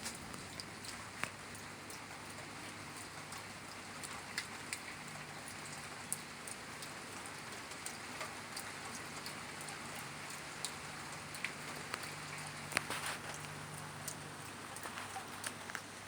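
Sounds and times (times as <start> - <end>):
raindrops tapping close by: 0.0 - 16.0
steady rain falling: 0.0 - 16.0.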